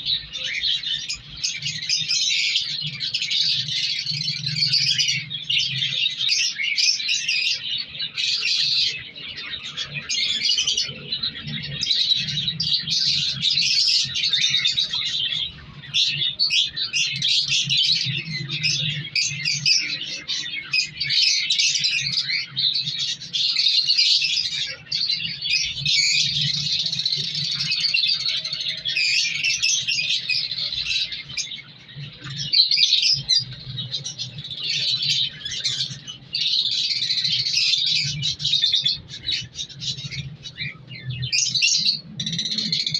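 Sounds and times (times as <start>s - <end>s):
cage birds chirping: 0.0s - 42.9s.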